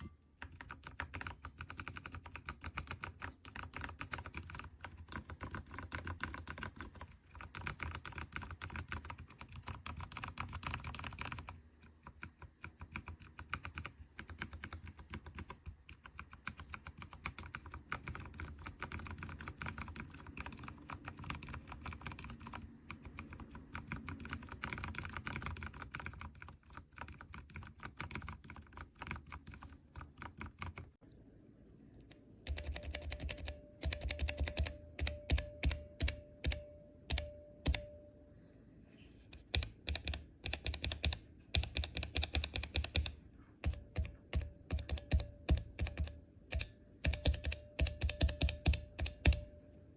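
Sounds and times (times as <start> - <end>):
mechanical keyboard clicking: 0.4 - 30.9, 32.4 - 37.9, 39.4 - 49.6.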